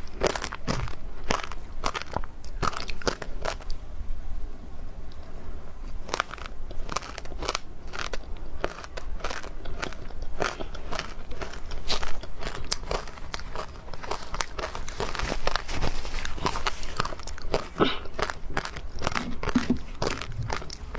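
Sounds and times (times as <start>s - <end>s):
person crunching frozen ice: 0.0s - 3.7s, 5.9s - 20.9s.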